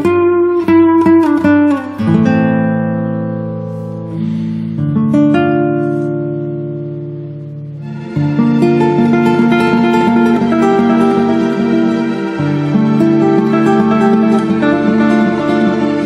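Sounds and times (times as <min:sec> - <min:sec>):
guitar picked notes and chords: 0:00.0 - 0:16.0.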